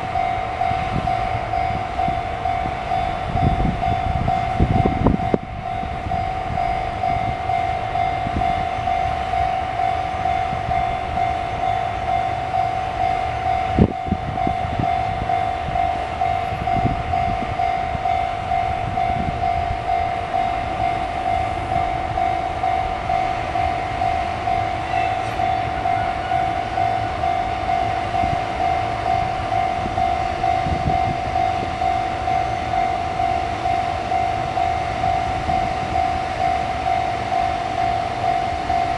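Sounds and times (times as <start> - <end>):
level crossing alarm pulsing: 0.0 - 38.9.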